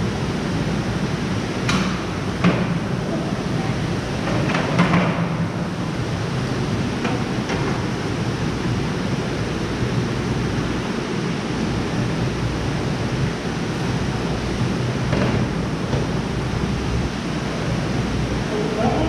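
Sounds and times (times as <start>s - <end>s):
low machine hum: 0.0s - 19.0s
water rushing through tanks: 0.0s - 19.0s.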